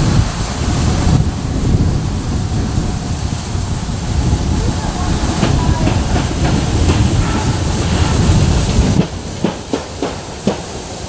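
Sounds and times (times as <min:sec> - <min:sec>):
train coaches rumbling past: 0:00.0 - 0:11.0
wheels clicking on rail joints: 0:00.0 - 0:11.0.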